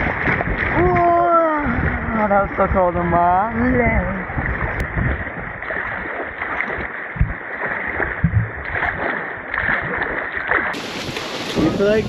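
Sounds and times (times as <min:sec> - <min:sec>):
short low thumps: 0:00.0 - 0:09.8
river rushing and splashing: 0:00.0 - 0:12.0.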